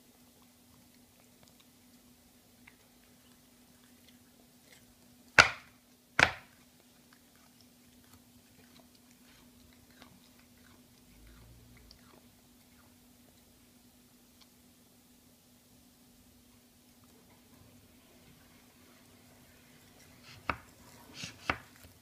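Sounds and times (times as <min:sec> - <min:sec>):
cat chewing grass: 0:00.0 - 0:22.0.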